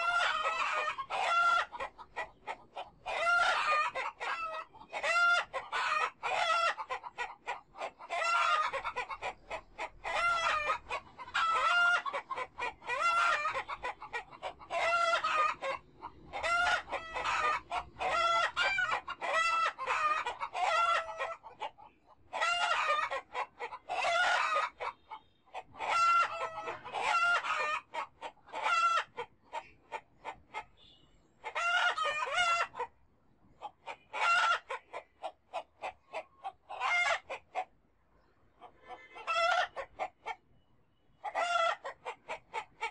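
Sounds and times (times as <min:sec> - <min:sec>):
chickens clucking and calling: 0:00.0 - 0:42.9.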